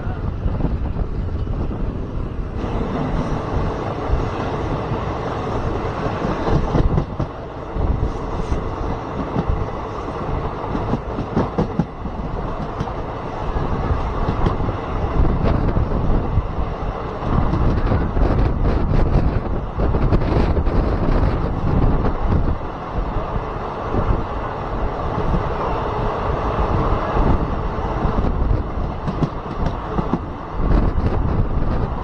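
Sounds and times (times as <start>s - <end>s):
train wheels rumbling on track: 0.0s - 32.0s.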